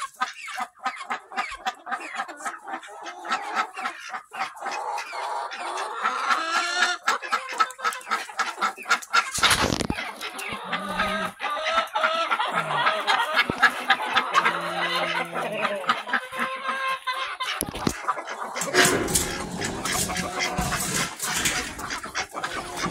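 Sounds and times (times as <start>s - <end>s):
hens clucking: 0.0s - 22.9s.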